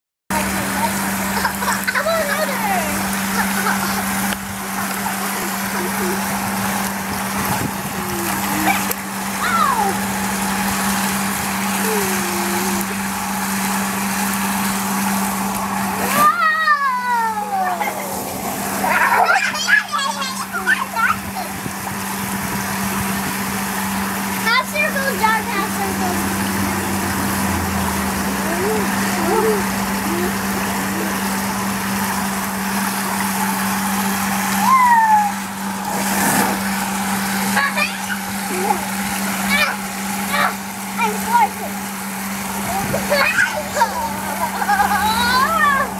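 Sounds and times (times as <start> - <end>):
constant low hum: 0.3 - 45.9
water rushing from pool jet: 0.3 - 45.9.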